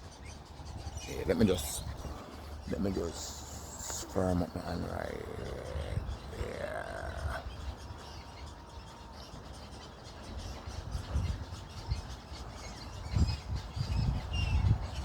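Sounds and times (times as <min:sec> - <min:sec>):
wind rumble on microphone: 0:00.0 - 0:08.5, 0:10.2 - 0:15.0.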